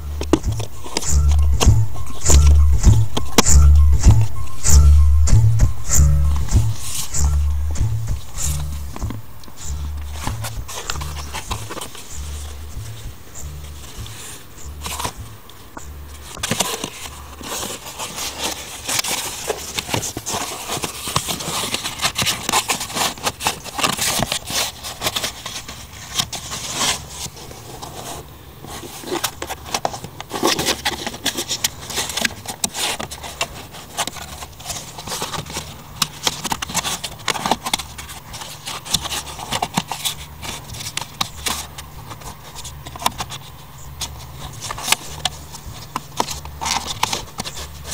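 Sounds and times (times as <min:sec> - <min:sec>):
hard plastic scrapes and clicks: 0:00.0 - 0:04.6, 0:05.6 - 0:47.9.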